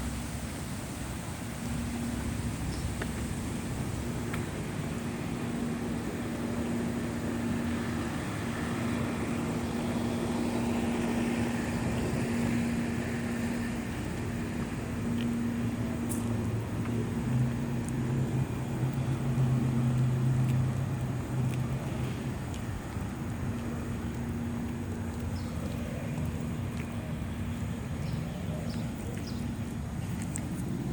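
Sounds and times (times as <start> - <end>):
lower engine hum: 0.0 - 30.9
outdoor background noise: 0.0 - 30.9
vehicle engine hum: 0.0 - 30.9.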